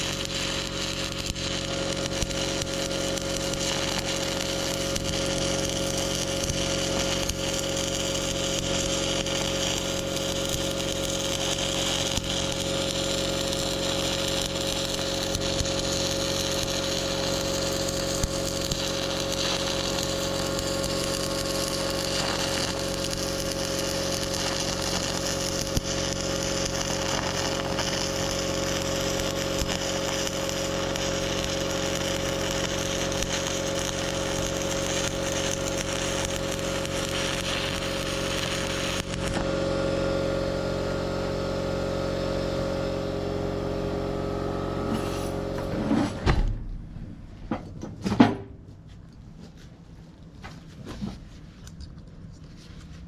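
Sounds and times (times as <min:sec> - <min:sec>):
welding arc crackling: 0:00.0 - 0:45.7.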